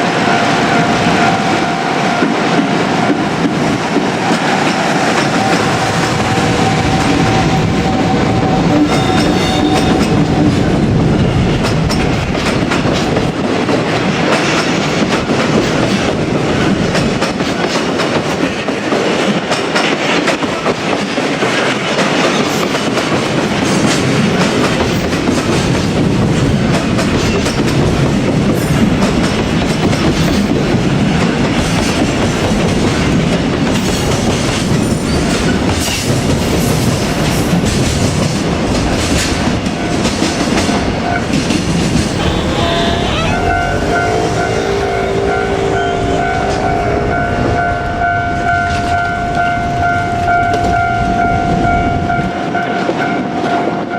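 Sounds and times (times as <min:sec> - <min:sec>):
freight train rolling past: 0:00.0 - 0:53.9.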